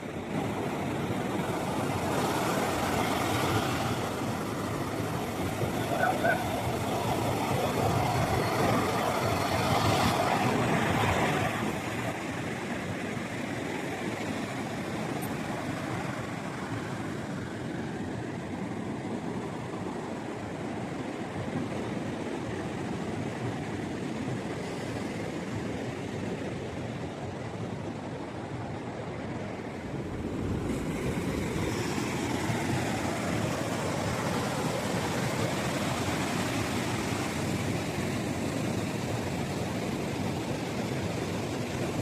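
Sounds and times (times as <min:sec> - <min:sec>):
ocean surf rushing on beach: 0:00.0 - 0:42.0.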